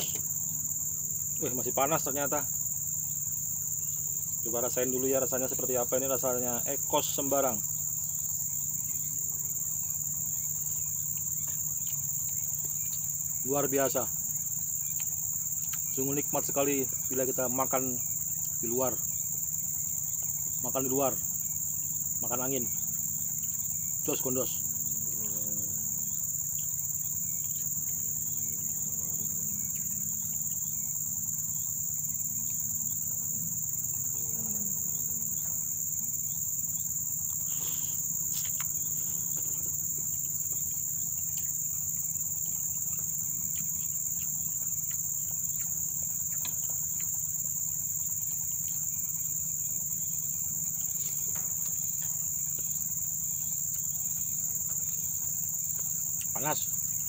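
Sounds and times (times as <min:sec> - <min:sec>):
shrill insect chorus: 0:00.0 - 0:57.0.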